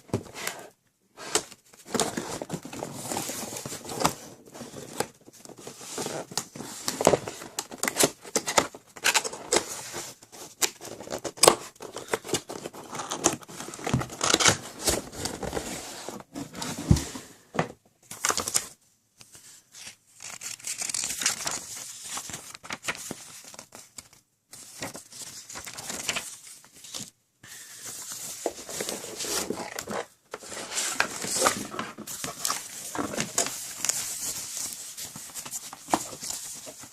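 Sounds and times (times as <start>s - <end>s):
plastic and paper crinkling: 0.0s - 17.0s, 18.1s - 36.9s.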